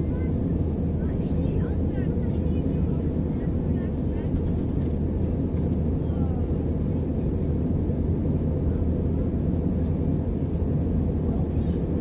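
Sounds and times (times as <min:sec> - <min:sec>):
aircraft cabin engine drone: 0:00.0 - 0:12.0.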